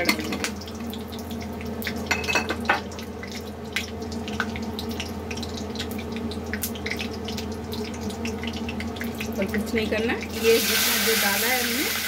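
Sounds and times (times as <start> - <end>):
ghee sizzling with crackles: 0.0 - 12.0.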